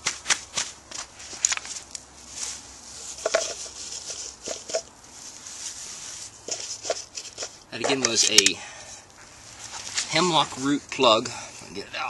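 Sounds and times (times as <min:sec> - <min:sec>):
hands handling dry wood: 0:00.0 - 0:11.8.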